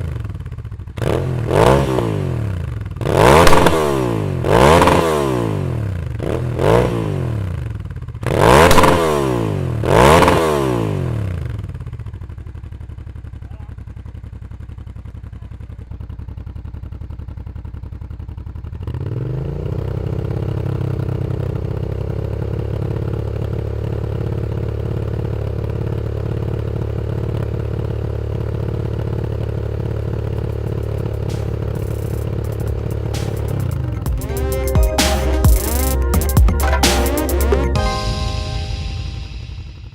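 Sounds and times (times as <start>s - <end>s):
motorcycle engine revving and idling: 0.0s - 35.7s.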